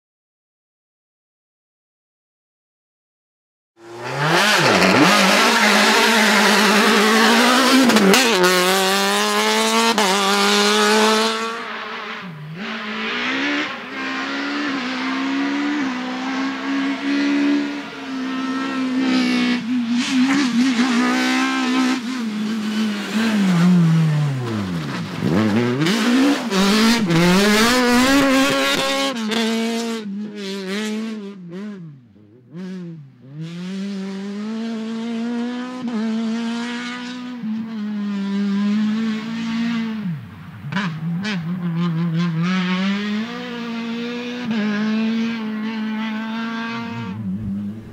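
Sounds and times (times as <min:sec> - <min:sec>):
rally car engine revving: 0:03.8 - 0:47.9.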